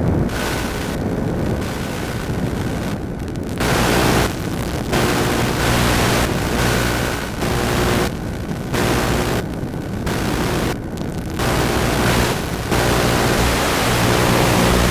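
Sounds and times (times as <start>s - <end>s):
faint steady whine: 0.0s - 14.9s
loud rushing noise: 0.2s - 14.9s.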